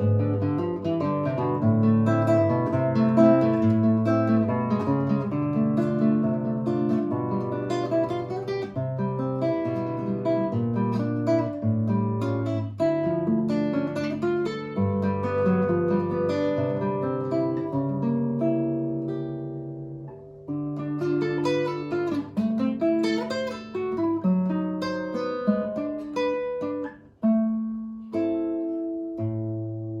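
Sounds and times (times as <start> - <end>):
acoustic guitar folk tune: 0.0 - 30.0.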